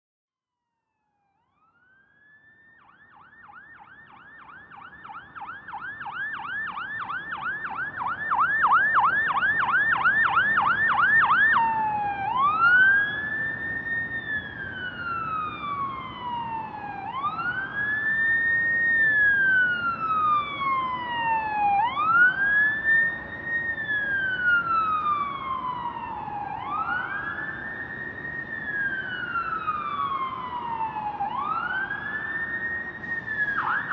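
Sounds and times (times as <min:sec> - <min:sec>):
emergency vehicle siren: 0:00.6 - 0:33.9.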